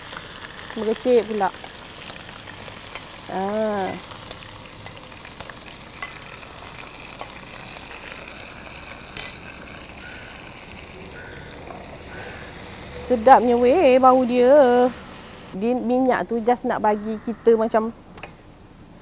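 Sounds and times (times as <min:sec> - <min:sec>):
beef sizzling in hot oil: 0:00.0 - 0:15.6.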